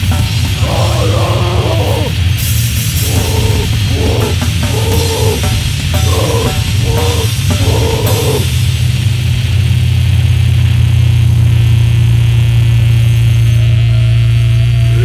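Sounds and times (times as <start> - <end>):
amplified instruments droning: 0.0 - 15.0.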